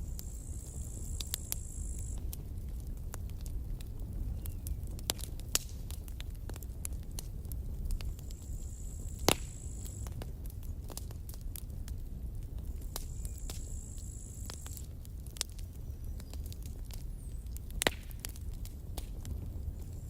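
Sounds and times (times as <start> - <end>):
low fire rumble: 0.0 - 20.0
wood crackling and popping: 0.0 - 20.0.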